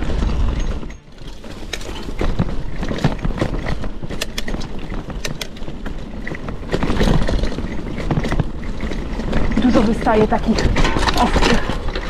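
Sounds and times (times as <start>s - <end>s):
low bike rumble: 0.0s - 12.0s
wheels knocking on stones: 0.0s - 12.0s.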